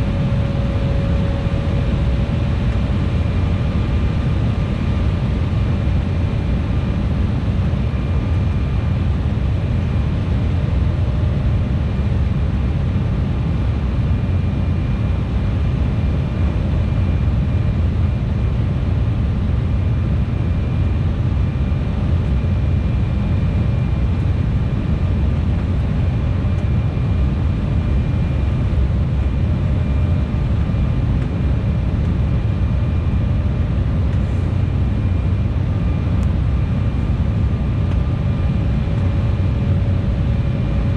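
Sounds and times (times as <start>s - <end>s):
fan whine: 0.0s - 40.9s
jet engine roar in cabin: 0.0s - 40.9s.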